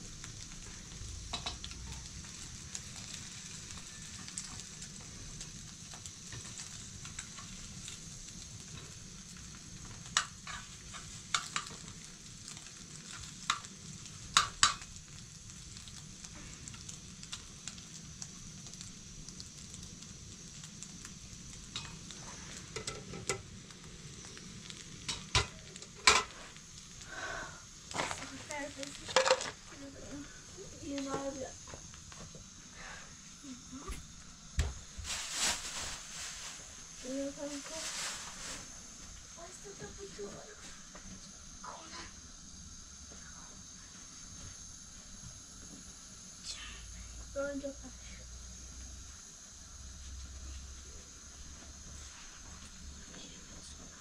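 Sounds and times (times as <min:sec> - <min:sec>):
food sizzling in pan: 0:00.0 - 0:54.0.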